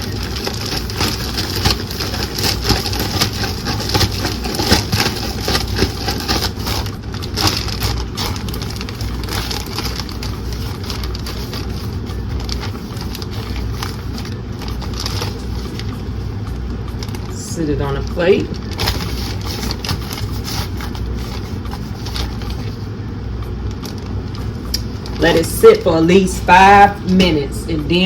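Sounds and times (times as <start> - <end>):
bag rustling and crackling: 0.0 - 23.0.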